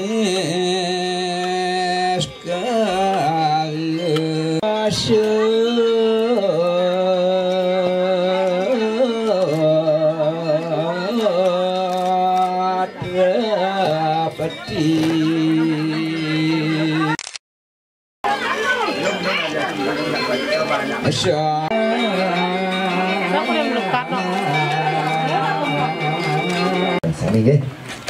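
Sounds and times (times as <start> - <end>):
person singing a chant: 0.0 - 17.2, 21.1 - 27.0.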